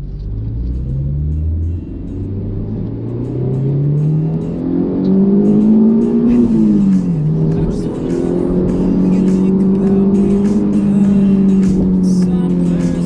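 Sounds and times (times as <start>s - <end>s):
car engine accelerating: 0.0s - 13.0s
road noise: 0.0s - 13.0s.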